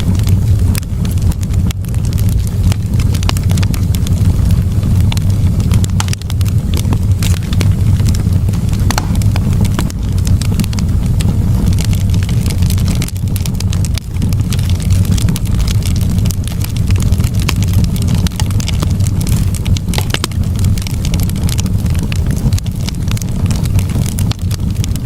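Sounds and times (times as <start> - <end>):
campfire crackling and popping: 0.0 - 25.0
low rumble: 0.0 - 25.0.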